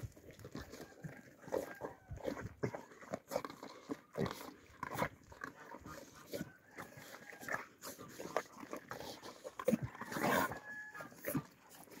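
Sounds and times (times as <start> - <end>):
puppies crunching dry kibble: 0.0 - 12.0
puppies snuffling at food: 0.0 - 12.0.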